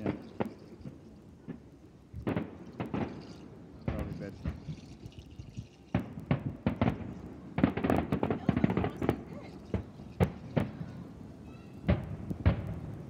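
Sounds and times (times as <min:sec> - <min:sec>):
firework bangs: 0:00.0 - 0:04.7, 0:05.9 - 0:13.0
fireworks crackling pops: 0:00.0 - 0:13.0.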